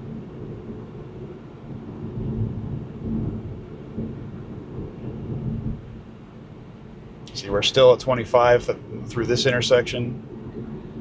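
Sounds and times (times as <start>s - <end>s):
road and tyre noise inside car: 0.0s - 11.0s.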